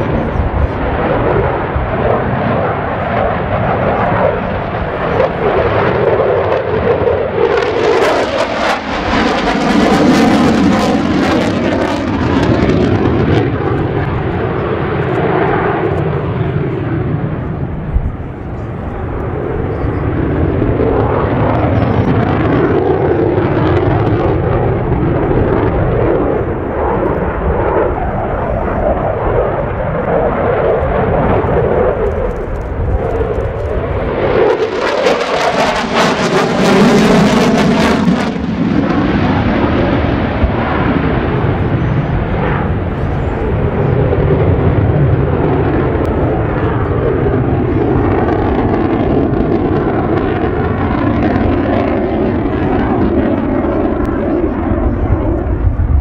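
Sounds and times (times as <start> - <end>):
jet engines roaring on flyby: 0.0 - 56.0.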